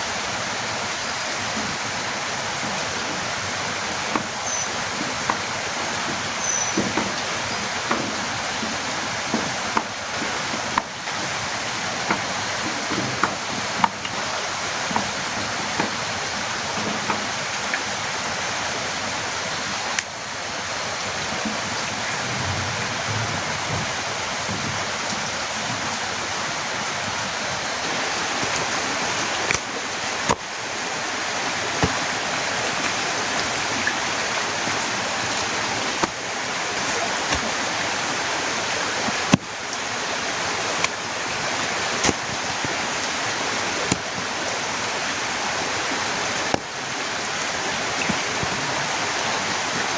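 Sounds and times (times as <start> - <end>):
big raindrops tapping: 0.0 - 49.9
heavy rain pouring: 0.0 - 49.9.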